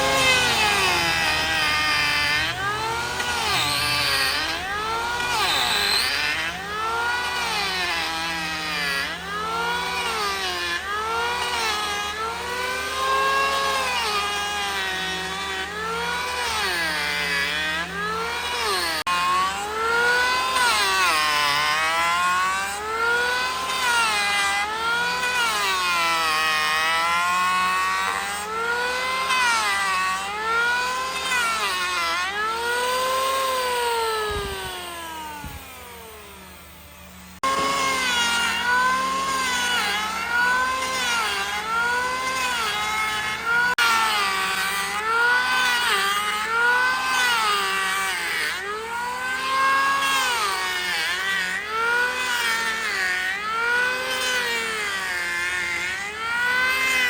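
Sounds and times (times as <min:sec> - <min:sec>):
power saw cutting wood: 0:00.0 - 0:57.0.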